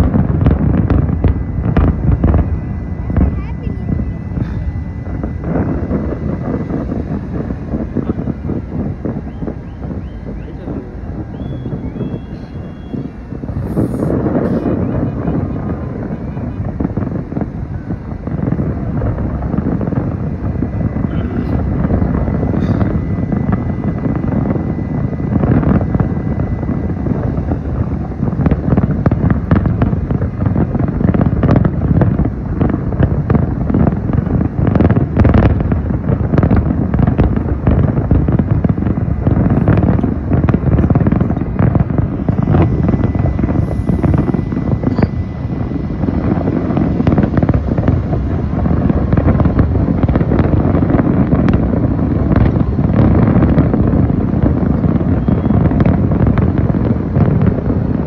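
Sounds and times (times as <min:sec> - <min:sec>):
firework bangs and crackles: 0:00.0 - 0:58.0
low rumble of fireworks: 0:00.0 - 0:58.0.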